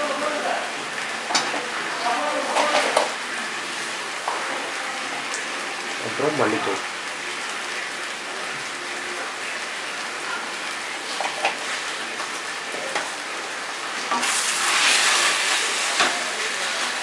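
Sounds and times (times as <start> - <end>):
masala sizzling in a pan: 0.0 - 17.0.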